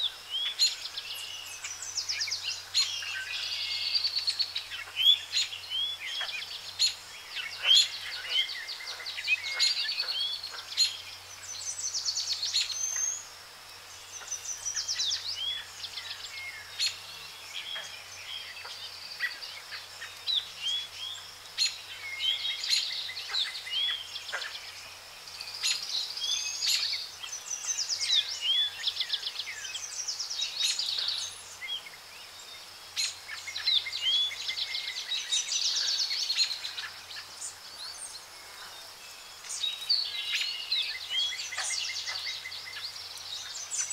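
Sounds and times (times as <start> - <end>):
birds chirping and singing: 0.0 - 43.9.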